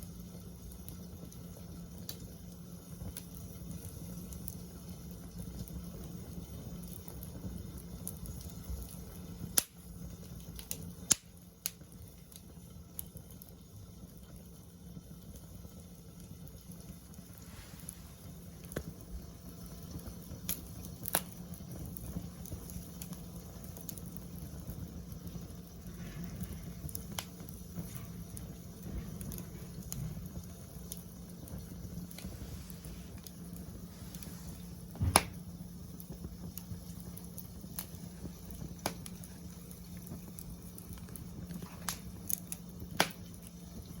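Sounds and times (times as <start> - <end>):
fire crackling and popping: 0.0 - 44.0
fire hissing: 0.0 - 44.0.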